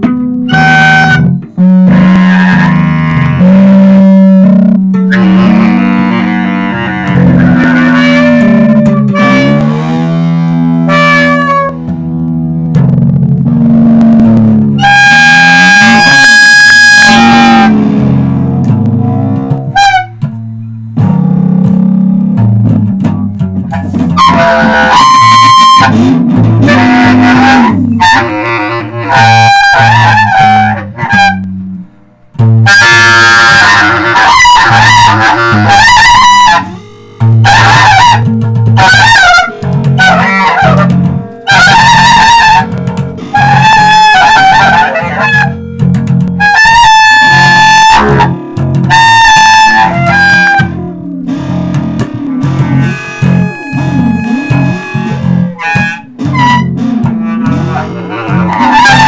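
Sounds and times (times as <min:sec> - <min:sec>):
electric bass low notes: 0:00.0 - 0:59.0
guitar: 0:00.0 - 0:59.0
wind instrument sliding tones: 0:00.4 - 0:12.2, 0:13.8 - 0:18.0, 0:23.7 - 0:31.8, 0:32.6 - 0:59.0.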